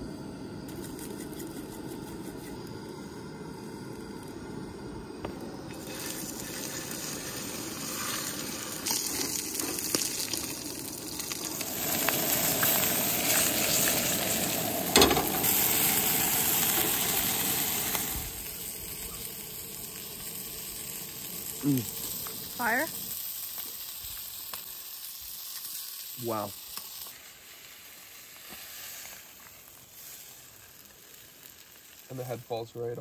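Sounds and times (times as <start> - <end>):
fish sizzling in a pan: 3.5 - 33.0.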